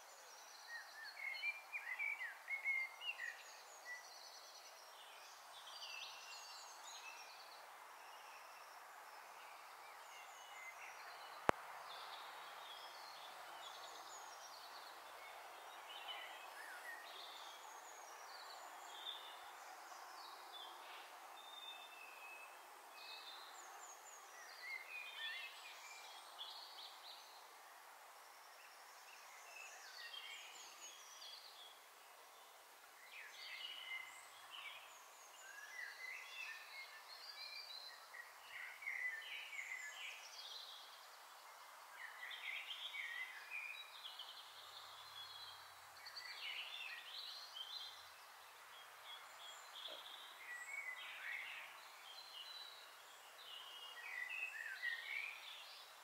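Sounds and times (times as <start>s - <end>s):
small birds chirping and trilling: 0.0s - 56.0s
steady hiss: 0.0s - 56.0s.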